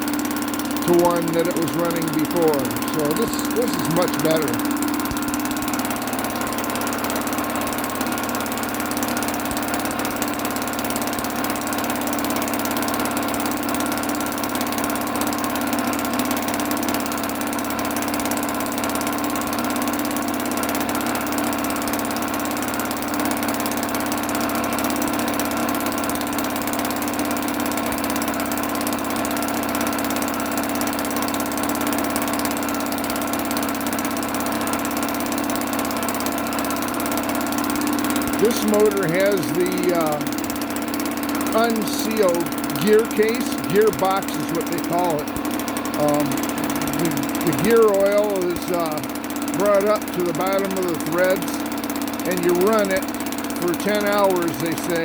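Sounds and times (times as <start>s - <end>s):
outboard motor purring: 0.0s - 55.0s.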